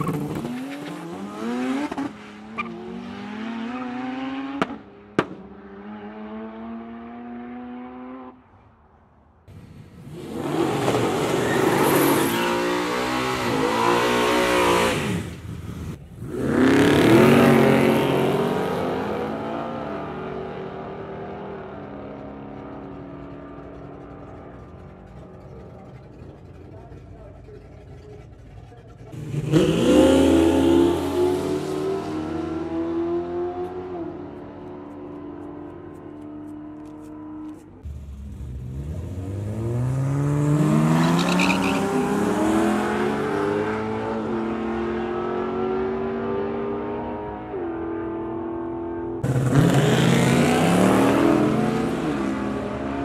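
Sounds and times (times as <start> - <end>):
race car engines revving: 0.0 - 8.4, 9.5 - 53.0.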